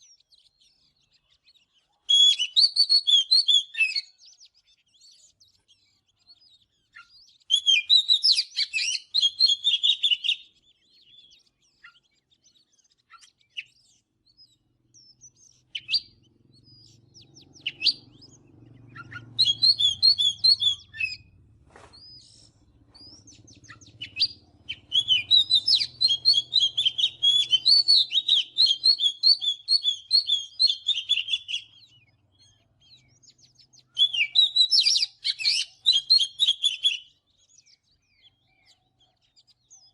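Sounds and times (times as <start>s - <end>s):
bird singing chirps and whistles: 0.0s - 39.9s.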